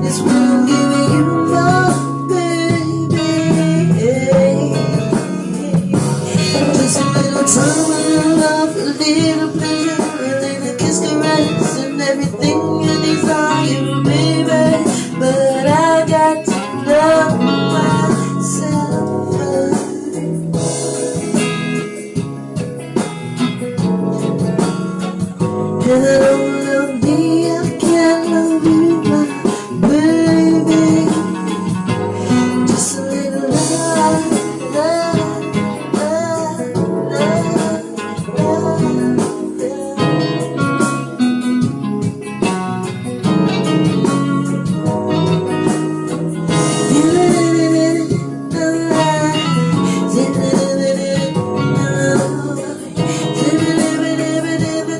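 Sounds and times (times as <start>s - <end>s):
person singing: 0.0s - 22.7s, 23.3s - 54.9s
guitar chords strummed: 0.0s - 54.9s.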